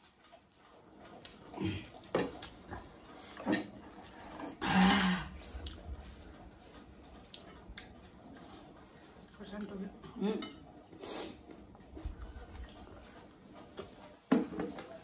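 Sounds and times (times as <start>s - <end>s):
mouth and breath sounds eating: 0.2s - 15.0s.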